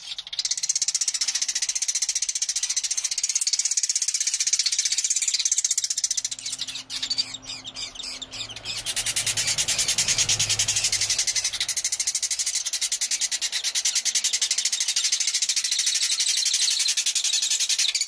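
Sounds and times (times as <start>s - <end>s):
bird chicks begging chatter: 0.0s - 18.0s.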